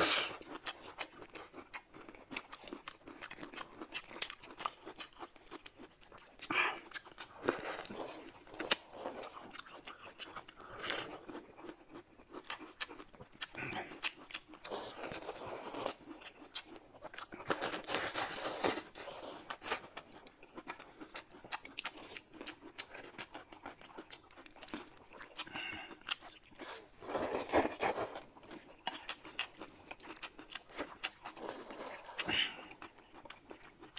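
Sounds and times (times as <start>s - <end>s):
wet chewing and lip smacking: 0.0s - 33.9s.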